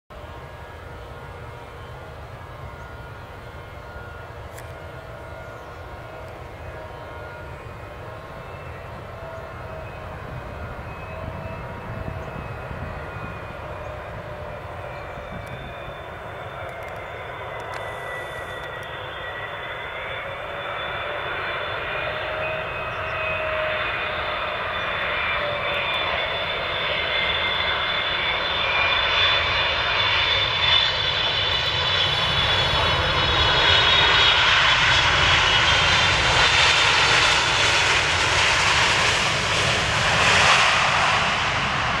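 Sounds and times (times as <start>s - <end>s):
jet engine whine: 0.1s - 42.0s.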